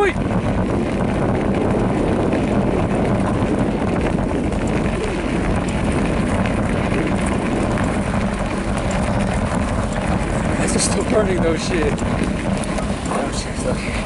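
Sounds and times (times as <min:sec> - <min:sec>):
bike tyres rolling on gravel: 0:00.0 - 0:14.0
wind rushing over microphone: 0:00.0 - 0:14.0.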